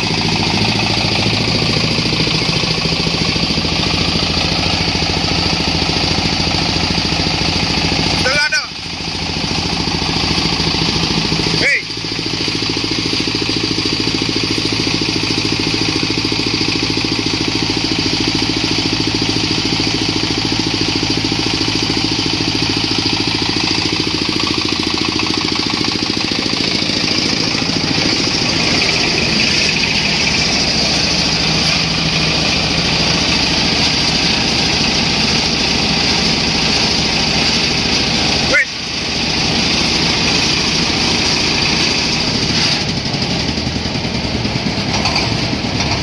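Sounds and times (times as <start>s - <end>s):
corn sheller engine running: 0.0s - 46.0s.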